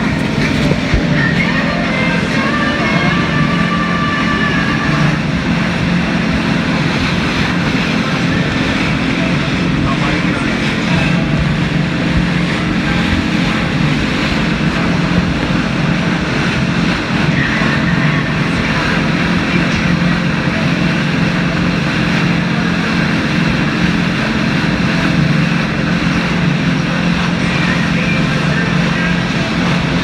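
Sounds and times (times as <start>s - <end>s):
boat engine droning: 0.0s - 30.0s
wind and water rushing: 0.0s - 30.0s.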